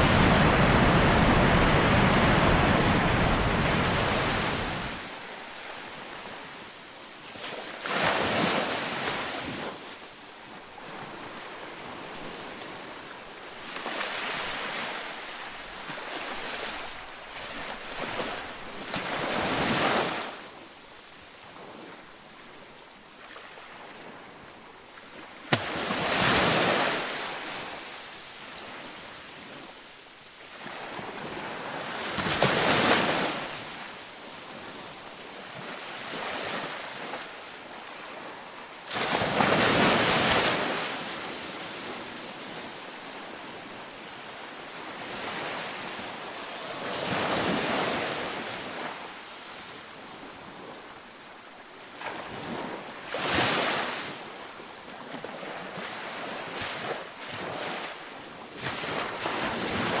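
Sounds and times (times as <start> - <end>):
steady wash of surf: 0.0 - 22.0, 25.4 - 60.0
ocean waves breaking on beach: 0.0 - 60.0.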